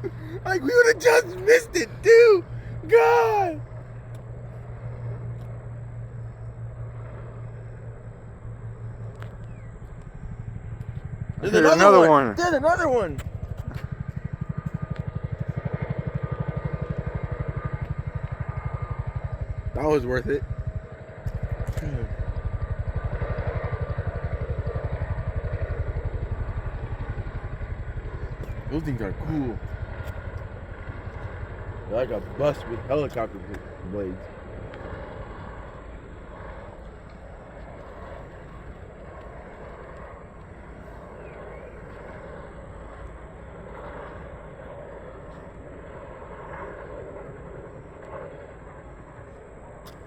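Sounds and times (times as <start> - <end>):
helicopter engine rushing: 0.0 - 3.8, 4.7 - 50.0
helicopter rotor beating: 0.0 - 50.0.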